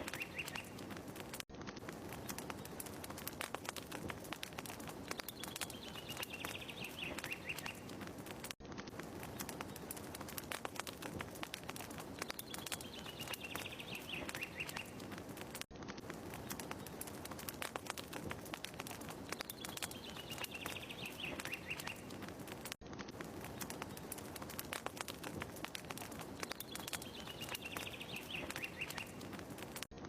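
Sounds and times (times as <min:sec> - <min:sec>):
fireplace crackling: 0:00.0 - 0:30.0.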